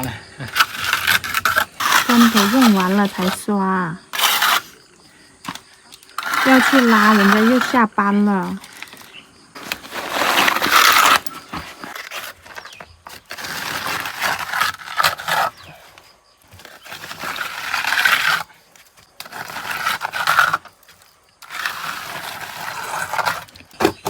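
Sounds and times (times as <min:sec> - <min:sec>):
trowel scraping mortar on brick: 0:00.4 - 0:04.9, 0:05.5 - 0:18.6, 0:19.2 - 0:24.0.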